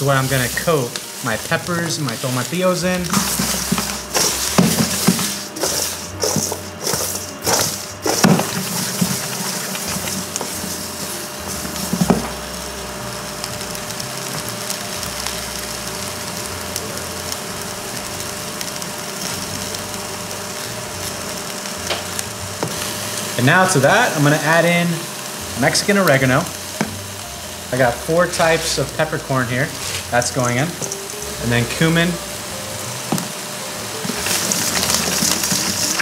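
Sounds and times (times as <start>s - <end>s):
sizzling hiss: 0.0s - 36.0s.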